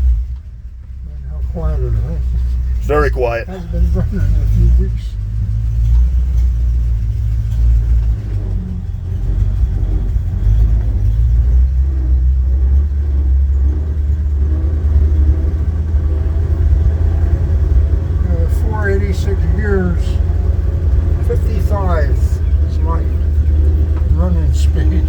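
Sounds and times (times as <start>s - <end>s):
engine rumbling: 0.0s - 25.0s.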